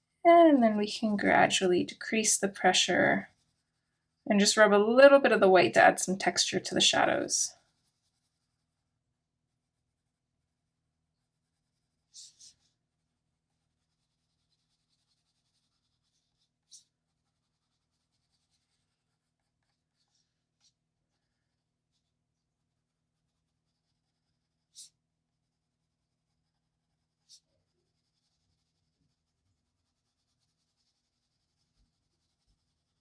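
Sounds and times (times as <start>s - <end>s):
pencil scratching on paper: 2.7s - 3.8s, 5.5s - 10.3s, 11.1s - 33.0s.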